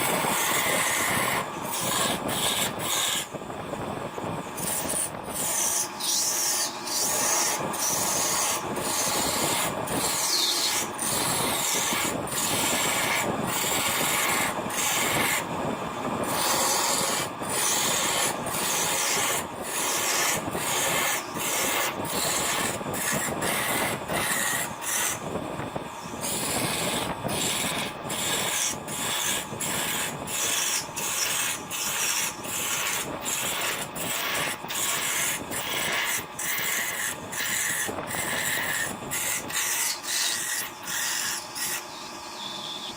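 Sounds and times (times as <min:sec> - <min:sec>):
wood lathe rasping: 0:00.0 - 0:03.2, 0:04.6 - 0:15.6, 0:16.2 - 0:25.2, 0:26.0 - 0:42.8.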